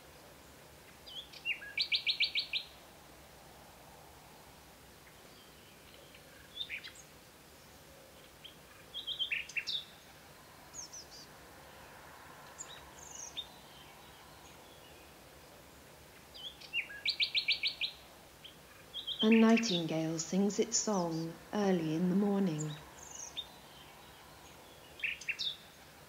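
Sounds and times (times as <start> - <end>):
faint outdoor hiss: 0.0 - 26.0
small birds chirping: 0.4 - 2.8, 4.3 - 26.0.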